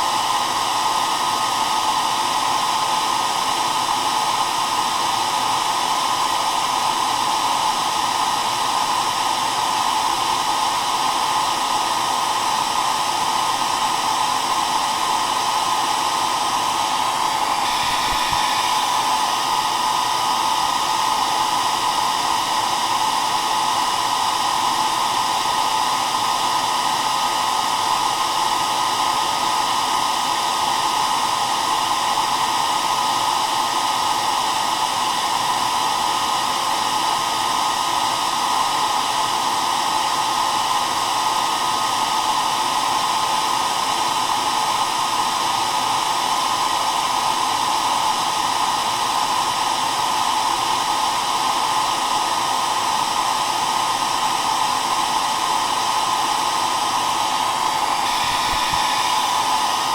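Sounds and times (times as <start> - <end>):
hair dryer blowing air: 0.0 - 59.9.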